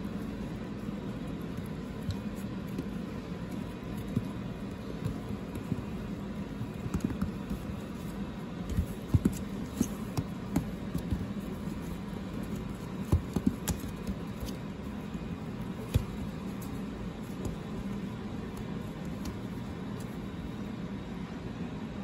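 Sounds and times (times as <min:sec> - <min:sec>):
puppy pawing taps and rustles: 0:00.0 - 0:20.6
low room hum: 0:00.0 - 0:22.0.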